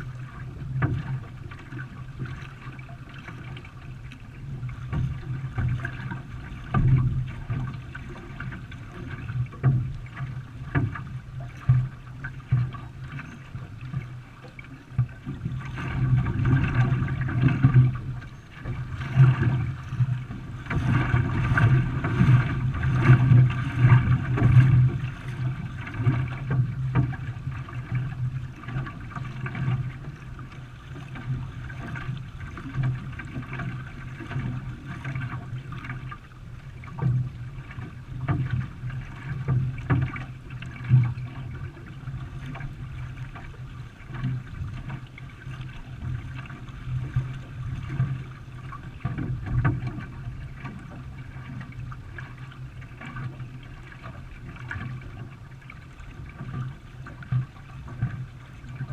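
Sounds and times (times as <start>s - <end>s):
paddle strokes splashing water: 0.0s - 58.9s.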